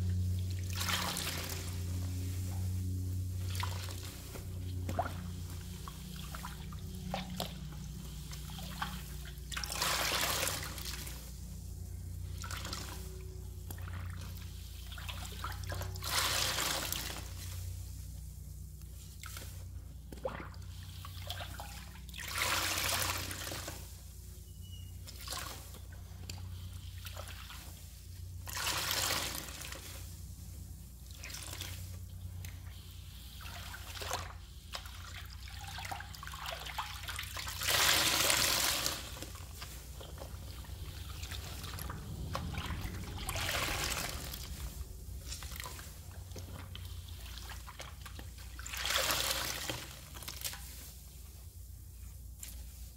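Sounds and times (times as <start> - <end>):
water gushing from squeezed sponge: 0.0 - 24.2, 24.9 - 51.6
water trickling from sponge: 0.0 - 52.9.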